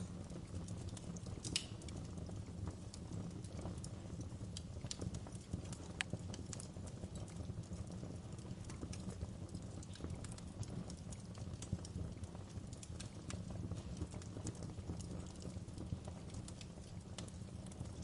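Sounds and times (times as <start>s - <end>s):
sharp pops of fire: 0.0s - 18.0s
wood fire crackling: 0.0s - 18.0s.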